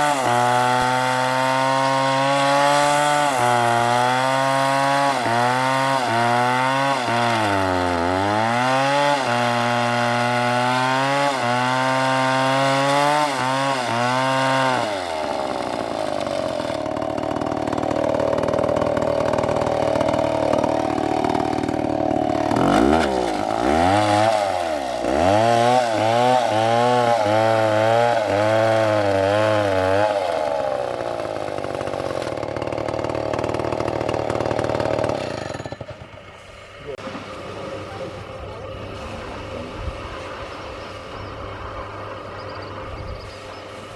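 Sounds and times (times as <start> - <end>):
chainsaw cutting log: 0.0 - 37.2.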